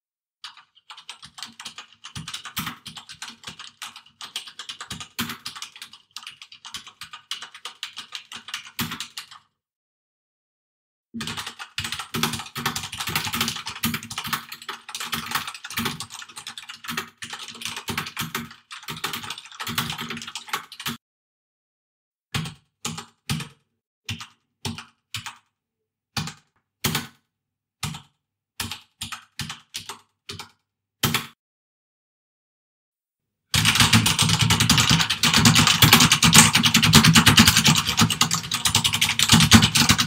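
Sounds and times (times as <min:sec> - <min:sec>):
computer keyboard typing: 0:00.4 - 0:09.4, 0:11.2 - 0:21.0, 0:22.4 - 0:25.5, 0:26.2 - 0:27.2, 0:27.8 - 0:31.4, 0:33.6 - 0:40.0.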